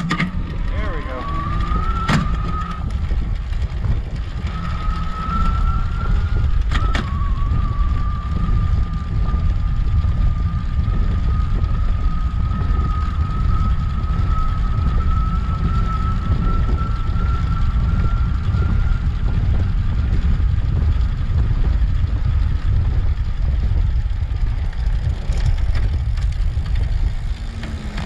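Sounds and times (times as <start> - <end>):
electric bike motor whining: 0.0 - 28.0
wind rumble on microphone: 0.0 - 28.0.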